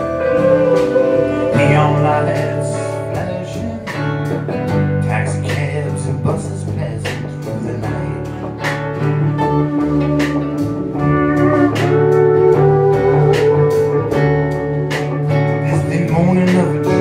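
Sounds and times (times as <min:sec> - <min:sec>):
pedal steel guitar sliding notes: 0:00.0 - 0:05.0, 0:08.1 - 0:17.0
drums steady beat: 0:00.0 - 0:17.0
electric guitar: 0:00.0 - 0:17.0
upright bass: 0:00.0 - 0:17.0.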